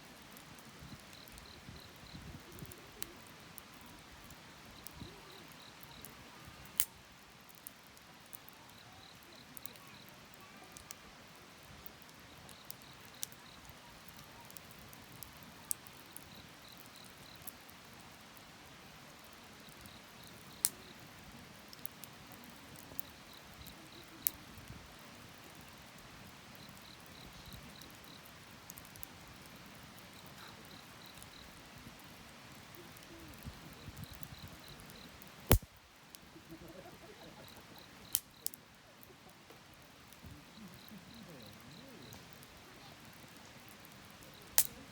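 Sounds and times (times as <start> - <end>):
bonfire crackling and popping: 0.0 - 44.9
insect chirping faintly: 0.0 - 44.9.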